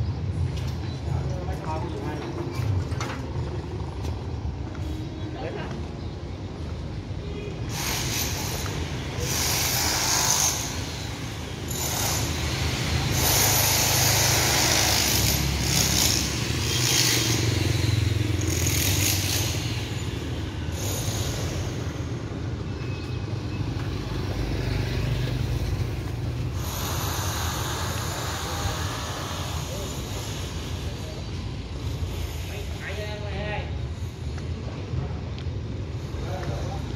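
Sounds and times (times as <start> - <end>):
motor vehicles passing: 0.0 - 33.1
steady low traffic rumble: 0.0 - 36.9.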